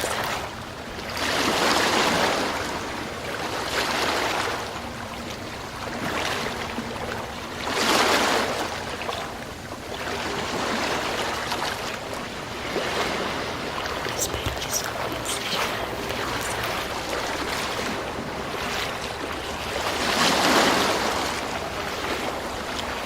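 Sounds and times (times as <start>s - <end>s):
sea waves breaking on shore: 0.0s - 23.0s.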